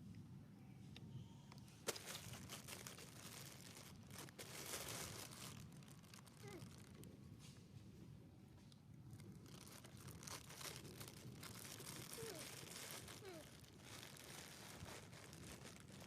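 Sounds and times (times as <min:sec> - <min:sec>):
faint crinkly rustling: 0:00.6 - 0:16.0.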